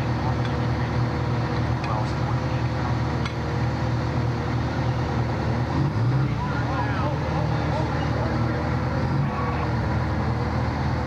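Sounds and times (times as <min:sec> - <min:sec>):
fire engine idling: 0:00.0 - 0:11.0.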